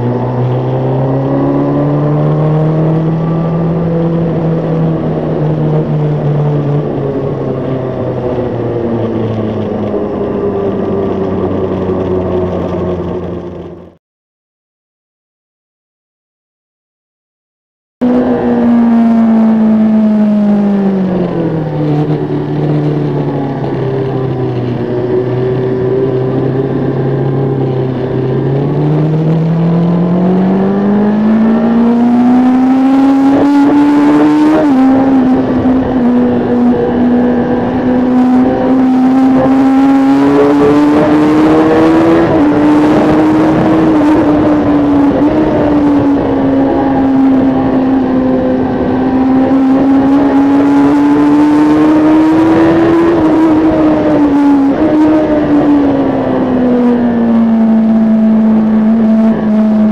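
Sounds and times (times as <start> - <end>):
motorcycle engine revving: 0.0 - 14.0, 18.0 - 59.9.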